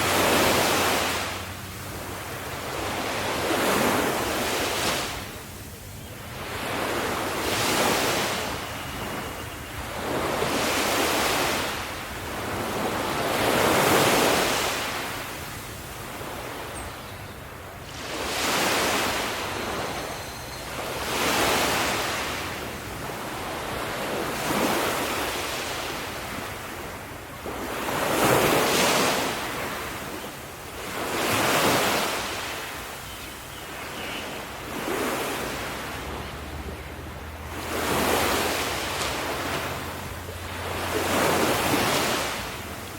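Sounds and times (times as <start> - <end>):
ocean waves breaking on shore: 0.0 - 42.9.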